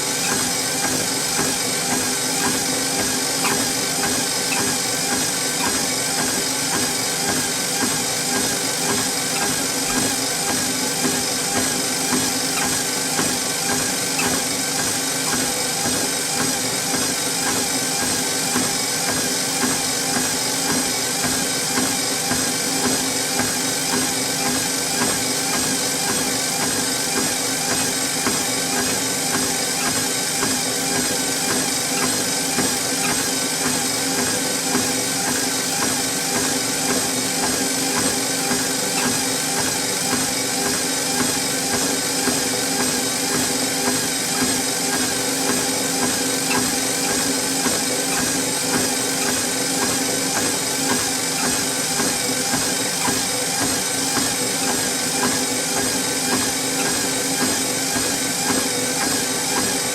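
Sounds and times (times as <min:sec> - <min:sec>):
treadmill motor and belt humming: 0:00.0 - 0:59.9
footfalls on treadmill belt: 0:00.2 - 0:59.9.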